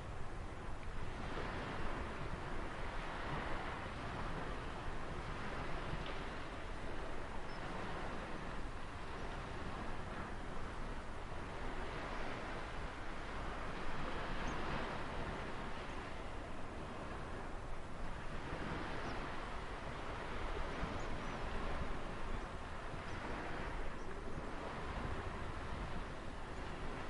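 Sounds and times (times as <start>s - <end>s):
ocean surf washing on shore: 0.0s - 27.0s.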